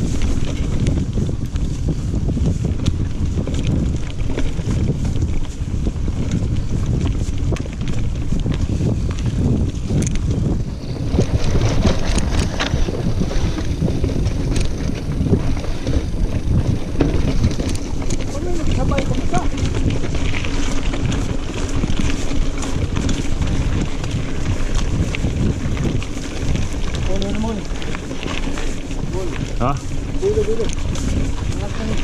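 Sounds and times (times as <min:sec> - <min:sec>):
bike clattering and rattling: 0:00.0 - 0:32.0
tyres rolling on dirt: 0:00.0 - 0:32.0
wind buffeting microphone: 0:00.0 - 0:32.0.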